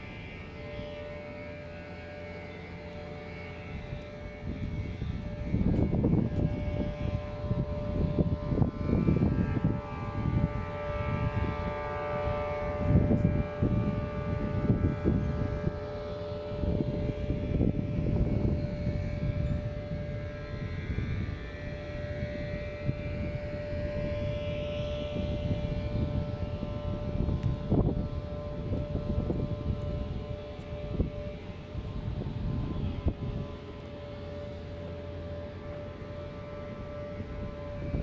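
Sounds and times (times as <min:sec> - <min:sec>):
machine drone with hum: 0:00.0 - 0:38.0.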